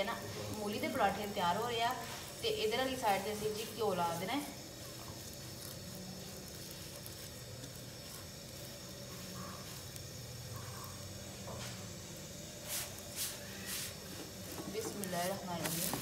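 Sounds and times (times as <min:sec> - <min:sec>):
flatbread sizzling on a pan: 0:00.0 - 0:16.0.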